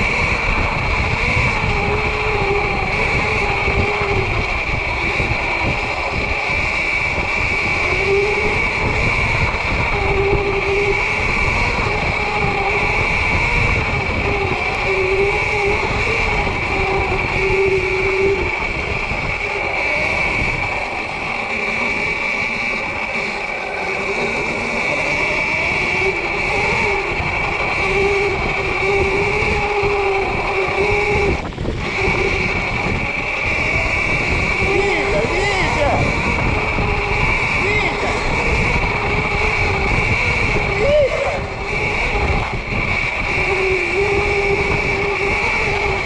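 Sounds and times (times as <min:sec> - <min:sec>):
electric dirt bike motor whine: 0:00.0 - 0:46.0.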